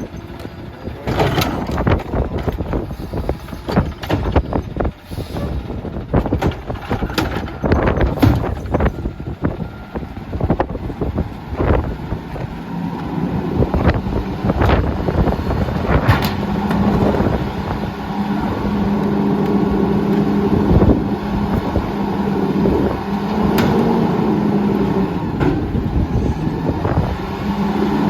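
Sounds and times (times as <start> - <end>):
garbage truck diesel engine: 0.0 - 28.0
wind buffeting microphone: 0.0 - 28.0.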